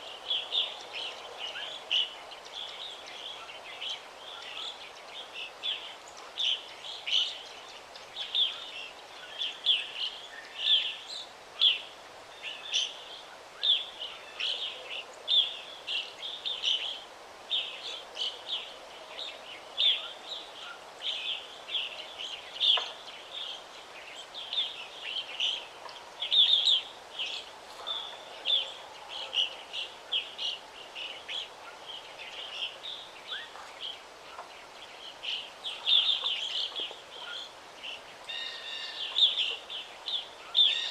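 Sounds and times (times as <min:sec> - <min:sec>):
faint steady hiss: 0:00.0 - 0:40.9
songbirds chirping: 0:00.0 - 0:40.9.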